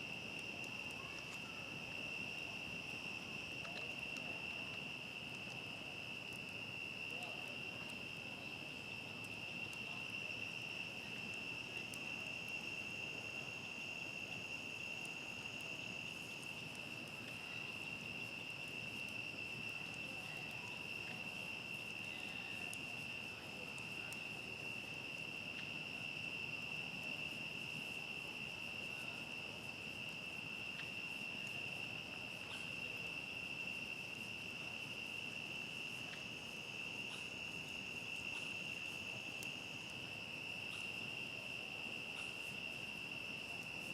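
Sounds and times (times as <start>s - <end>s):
campfire crackling: 0.0s - 43.9s
crickets trilling: 0.0s - 43.9s
low hiss: 0.0s - 43.9s.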